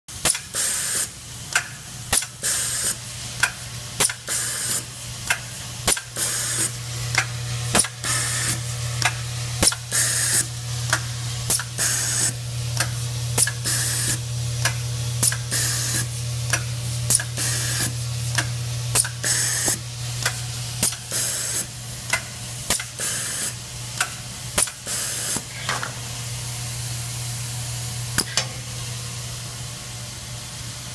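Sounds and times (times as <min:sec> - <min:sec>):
hiss bursts with clicks: 0:00.2 - 0:25.5.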